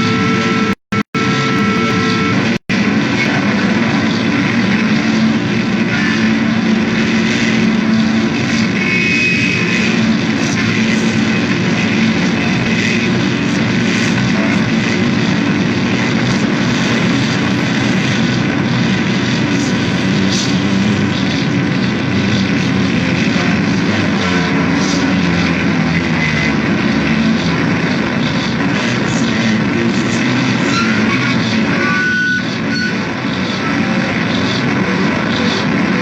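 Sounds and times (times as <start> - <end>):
harsh noise music: 0.0 - 36.0
low droning hum: 0.0 - 36.0.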